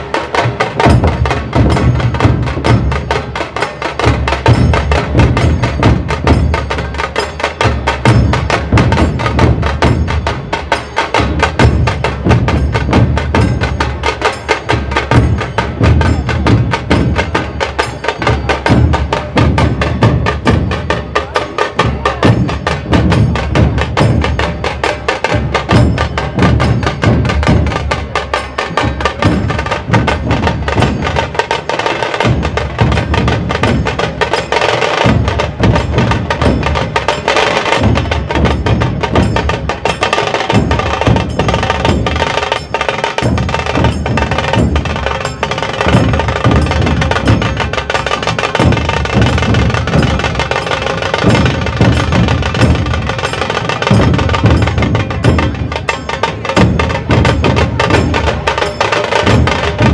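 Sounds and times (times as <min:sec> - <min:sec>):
large drums beating low rhythm: 0:00.0 - 0:59.9
rapid sharp drum strokes: 0:00.0 - 0:59.9.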